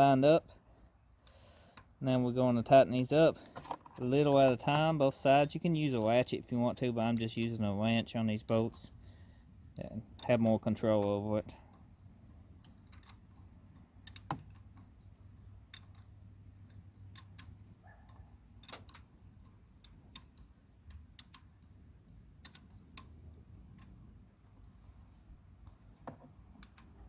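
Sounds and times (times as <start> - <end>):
wrench clicking on metal bolts: 2.9 - 9.0, 9.9 - 24.6, 25.5 - 27.0.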